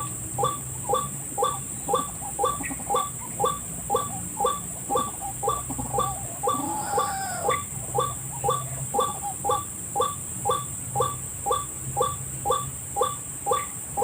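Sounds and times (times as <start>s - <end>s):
faint wavering bird call: 0.0s - 14.0s
steady high hiss: 0.0s - 14.0s
waterhen call repeated: 0.0s - 14.0s.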